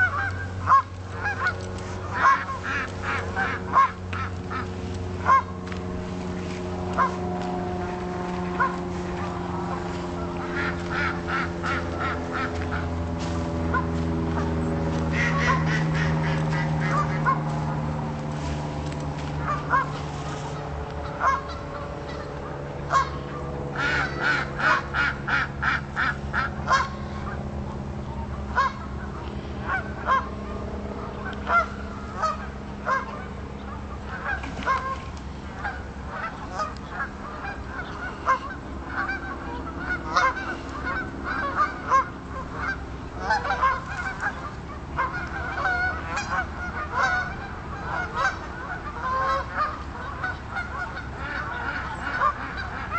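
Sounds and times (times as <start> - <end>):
geese honking: 0.0 - 52.9.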